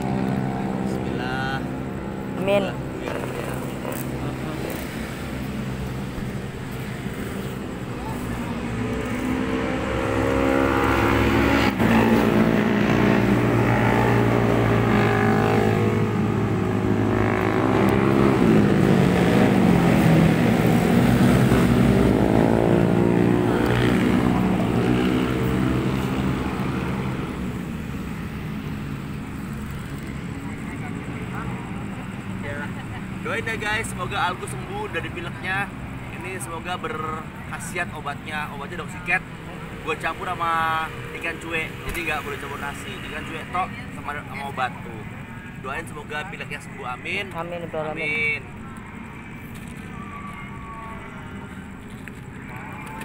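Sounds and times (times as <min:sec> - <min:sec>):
vehicle engines passing: 0:00.0 - 0:53.0.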